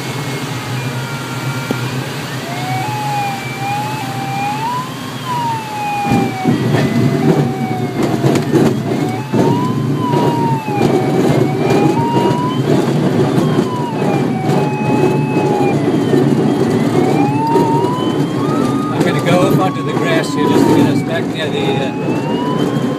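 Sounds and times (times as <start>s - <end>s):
variometer tone sliding in pitch: 0.0s - 22.9s
wheel rolling on concrete runway: 2.4s - 22.9s.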